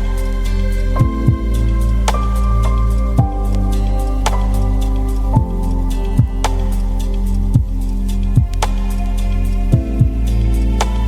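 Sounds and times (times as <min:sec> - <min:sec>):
deep falling bass thumps: 0:01.0 - 0:08.9, 0:09.7 - 0:11.0.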